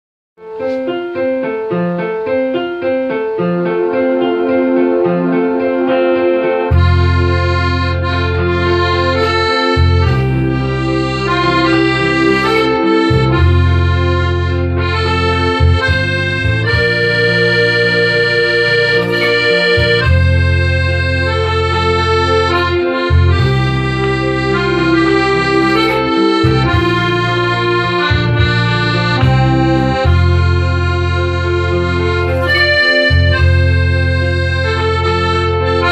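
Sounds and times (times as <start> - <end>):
accordion playing a tune: 0.4 - 35.9.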